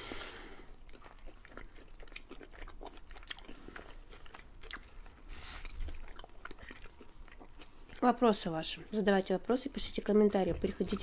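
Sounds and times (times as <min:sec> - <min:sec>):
soft chewing crunches: 0:00.6 - 0:11.0.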